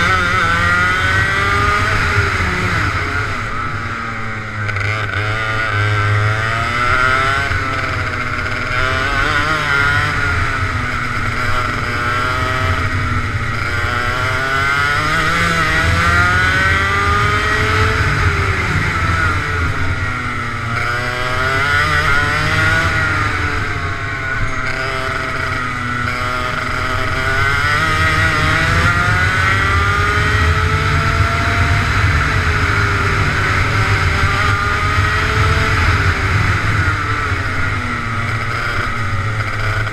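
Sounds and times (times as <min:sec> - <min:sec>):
racing kart engine revving: 0:00.0 - 0:39.9.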